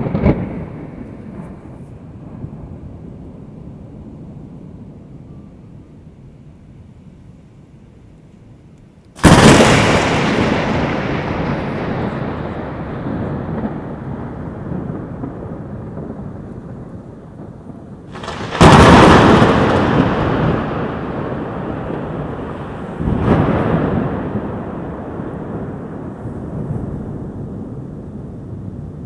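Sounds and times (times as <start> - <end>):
loud close thunder rumbling: 0.0 - 5.8, 9.2 - 29.0.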